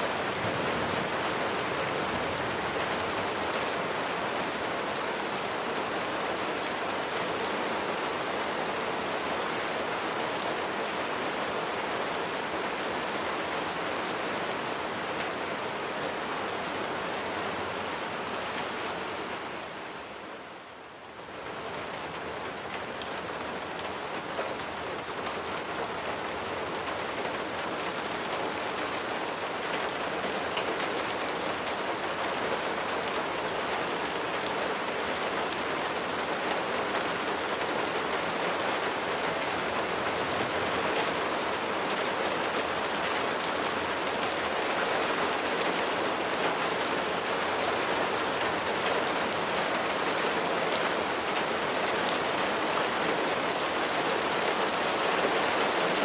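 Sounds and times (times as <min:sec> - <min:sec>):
rain pattering on surface: 0:00.0 - 0:56.0.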